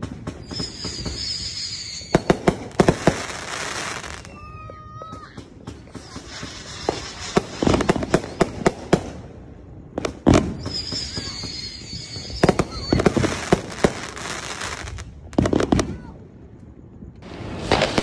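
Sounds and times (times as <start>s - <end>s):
firework high wavering whistle: 0.0s - 9.0s, 9.8s - 16.2s, 17.1s - 18.0s
fireworks bangs: 0.0s - 18.0s.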